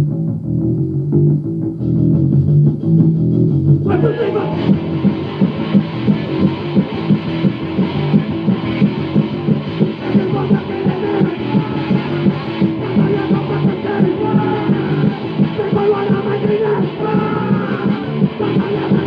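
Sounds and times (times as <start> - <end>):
punk rock band playing: 0.0 - 19.0.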